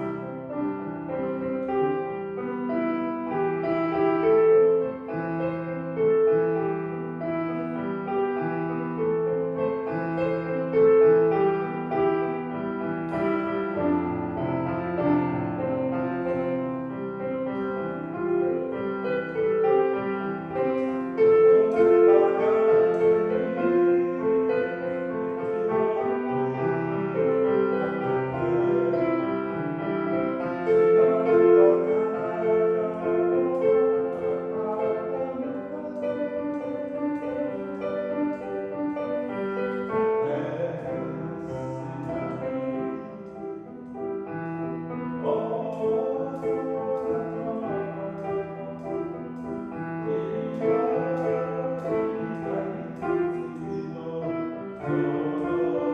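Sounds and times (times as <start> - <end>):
solo piano melody: 0.0 - 55.9.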